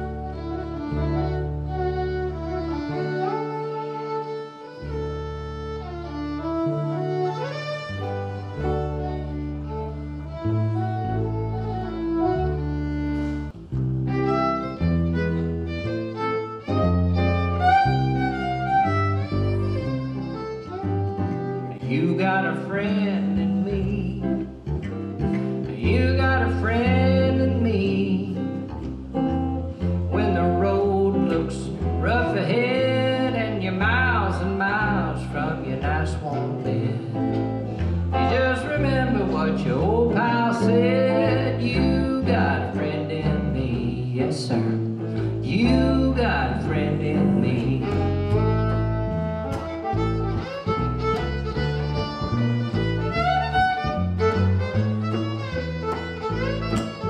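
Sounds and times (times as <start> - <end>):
fiddle playing lively melody: 0.0 - 57.0
plucked upright bass: 0.0 - 57.0
strummed acoustic guitar: 0.0 - 57.0.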